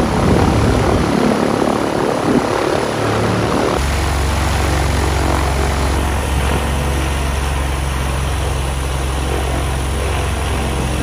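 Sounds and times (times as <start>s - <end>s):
aircraft engine running: 0.0s - 11.0s.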